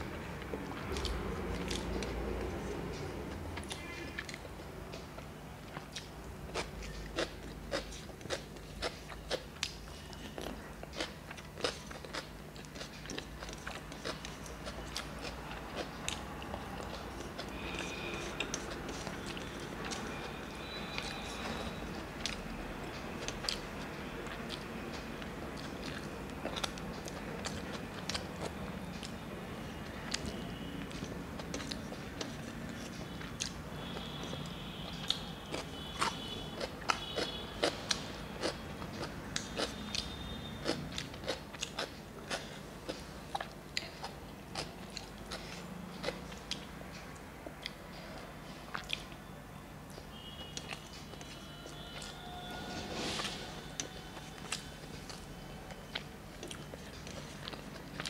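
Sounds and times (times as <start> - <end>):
wet chewing and mouth smacks: 0.4 - 49.2, 49.9 - 52.2, 53.2 - 58.0.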